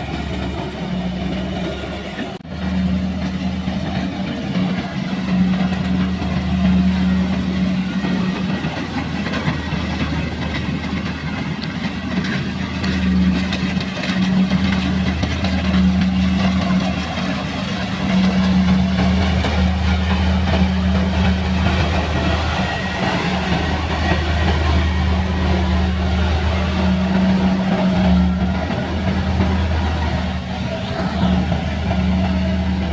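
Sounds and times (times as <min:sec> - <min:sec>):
combine harvester engine drone: 0:00.0 - 0:32.9.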